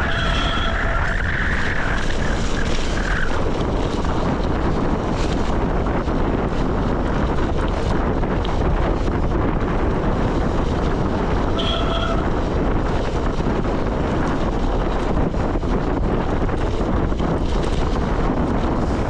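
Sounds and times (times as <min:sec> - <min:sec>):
tyres rolling on gravel: 0:00.0 - 0:19.0
wind buffeting microphone: 0:00.0 - 0:19.0.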